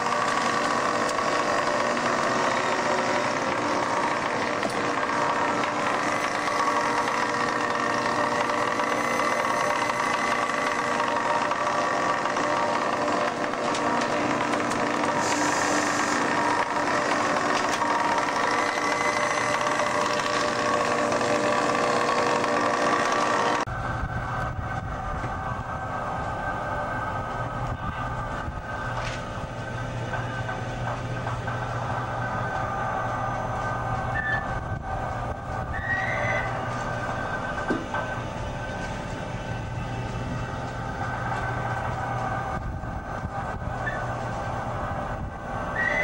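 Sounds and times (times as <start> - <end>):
ship engine and machinery hum: 0.0 - 46.0.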